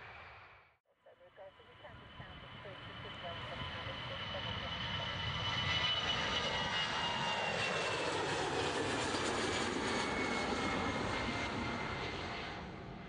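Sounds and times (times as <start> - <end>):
high jet engine whine: 1.4 - 13.0
jet engines roaring: 1.7 - 13.0.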